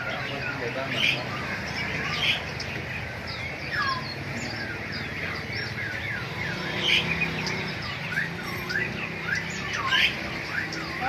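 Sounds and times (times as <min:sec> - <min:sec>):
caged birds chirping and calling: 0:00.0 - 0:11.0.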